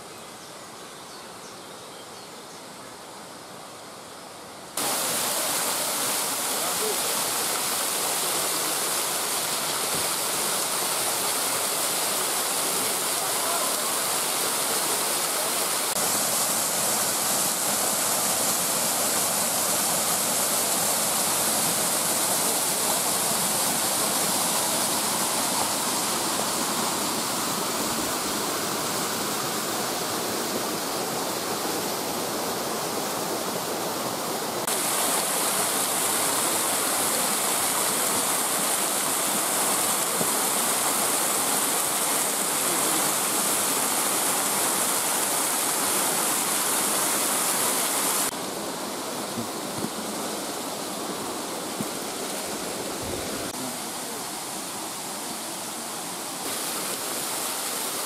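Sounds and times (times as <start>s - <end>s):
waterfall rushing: 4.8s - 58.0s.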